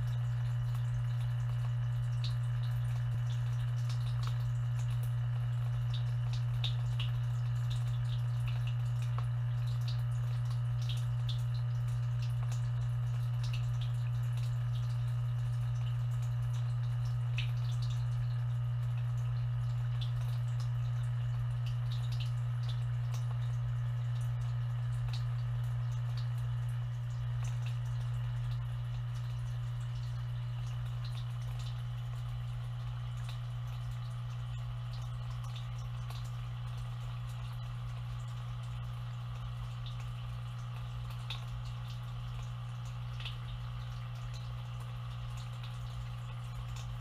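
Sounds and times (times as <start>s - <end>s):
dishwasher humming: 0.0s - 47.0s
water dripping and ticking: 0.0s - 47.0s.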